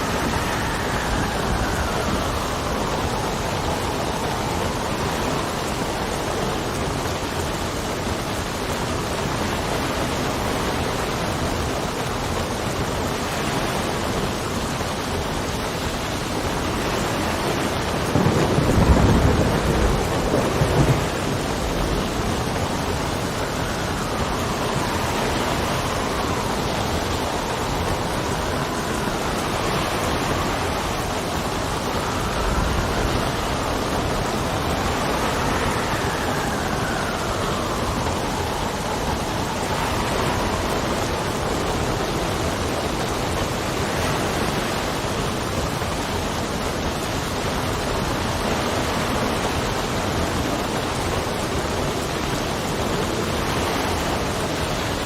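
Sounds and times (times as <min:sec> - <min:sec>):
low rumble of thunder: 0:00.0 - 0:13.1, 0:15.2 - 0:55.0
steady rain: 0:00.0 - 0:55.0
wind whistling: 0:00.0 - 0:55.0.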